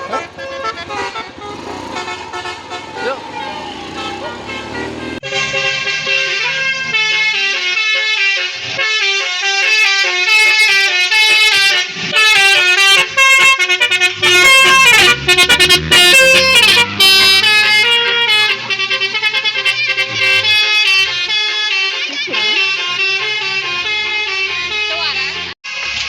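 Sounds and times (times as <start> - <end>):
multi-trumpet electric horn tune: 0.0 - 25.6.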